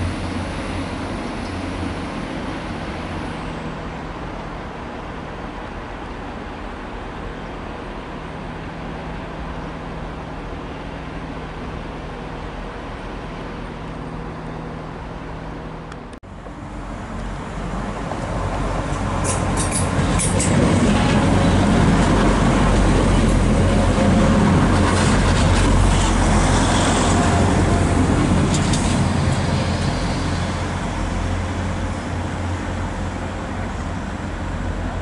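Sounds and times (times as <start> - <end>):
diesel train running: 0.0 - 35.0
train approaching: 0.0 - 35.0.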